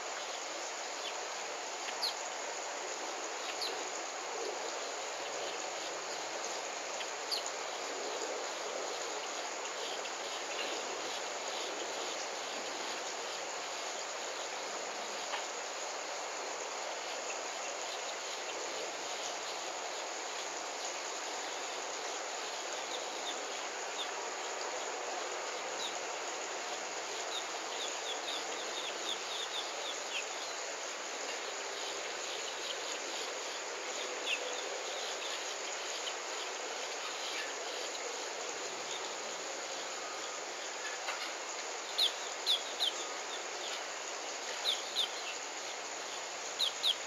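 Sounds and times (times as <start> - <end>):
insect chorus hiss: 0.0 - 47.0.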